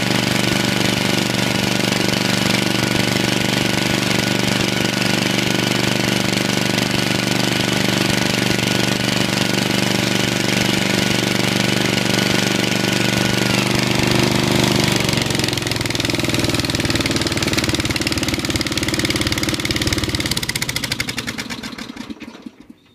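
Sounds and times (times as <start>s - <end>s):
lawn tractor engine running: 0.0s - 22.9s.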